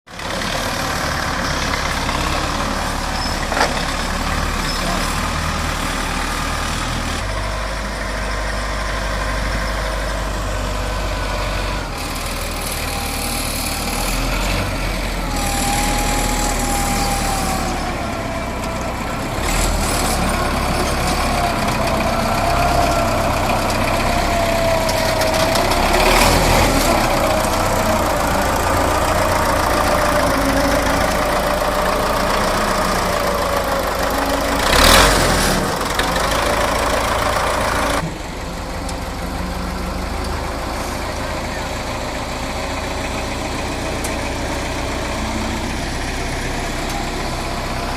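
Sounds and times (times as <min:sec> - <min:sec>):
truck engine idling: 0:00.1 - 0:47.9.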